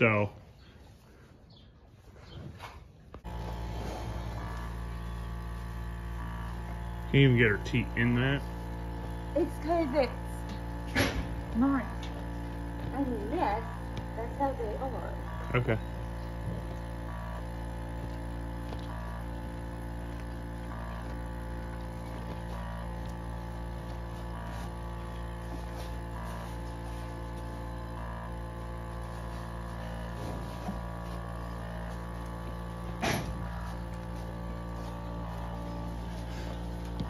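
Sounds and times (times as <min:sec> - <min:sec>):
milking machine pump hum: 0:03.1 - 0:37.0.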